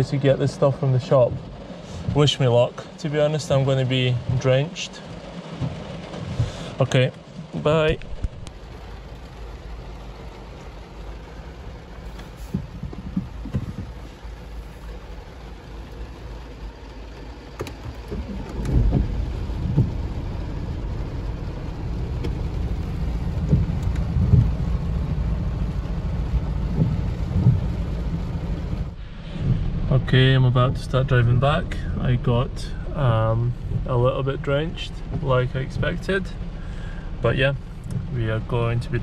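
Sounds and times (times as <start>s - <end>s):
heavy rain on car roof: 0.0s - 39.0s
deep low rumble: 5.1s - 39.0s.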